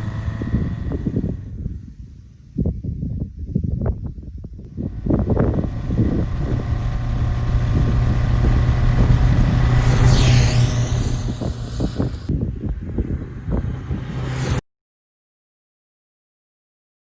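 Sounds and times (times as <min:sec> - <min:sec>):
motorcycle engine exhaust: 0:00.0 - 0:14.5.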